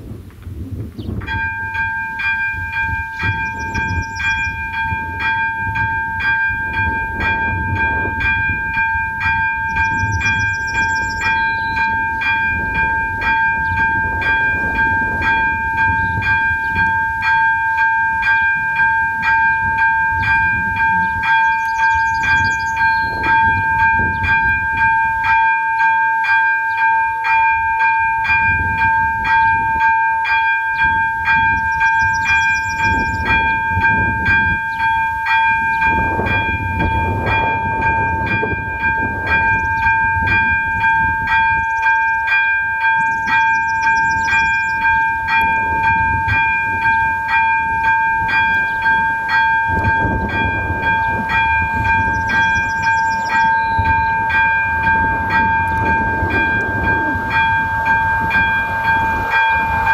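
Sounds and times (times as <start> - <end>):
level crossing bell ringing: 1.3 - 59.9.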